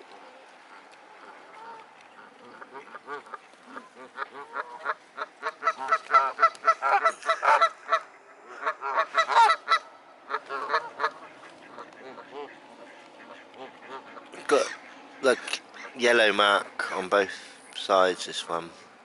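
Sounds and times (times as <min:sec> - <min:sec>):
waterfowl honking: 0:00.0 - 0:18.0.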